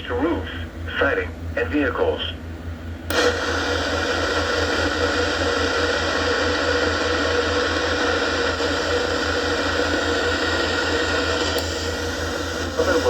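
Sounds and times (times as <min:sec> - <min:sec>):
radio static hiss: 0:00.0 - 0:02.4, 0:04.2 - 0:13.0
low pulsing buzz: 0:00.0 - 0:13.0.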